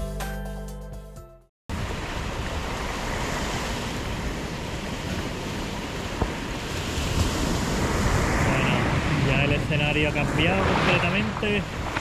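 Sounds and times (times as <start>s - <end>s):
sea waves washing on shore: 1.7s - 12.0s
wind buffeting microphone: 1.7s - 12.0s.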